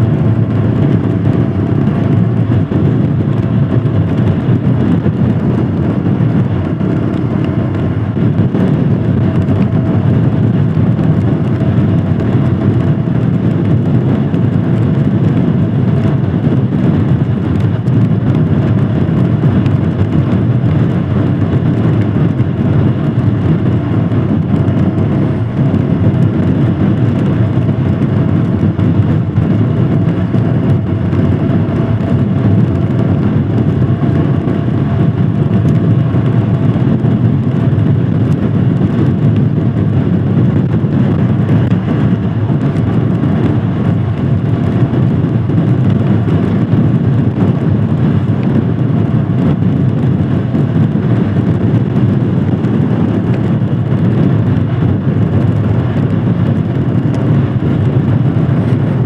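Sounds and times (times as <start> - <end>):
motorcycle engine running: 0.0 - 59.0
riding noise rush: 0.0 - 59.0.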